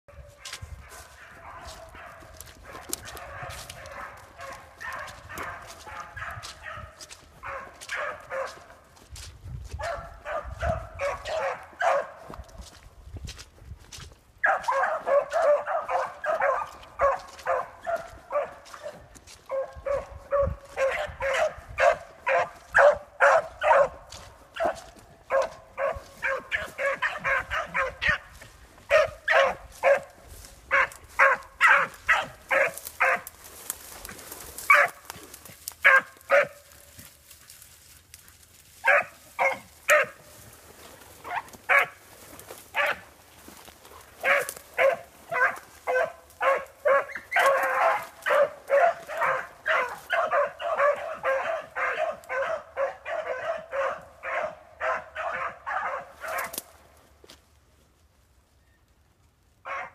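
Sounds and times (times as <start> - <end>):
dogs baying: 0.1 - 8.9, 9.8 - 12.6, 14.4 - 37.1, 38.7 - 56.6.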